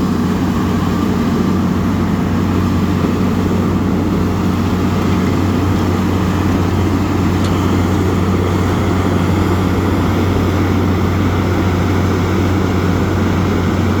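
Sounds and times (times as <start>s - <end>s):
milling machine diesel drone: 0.0s - 14.0s.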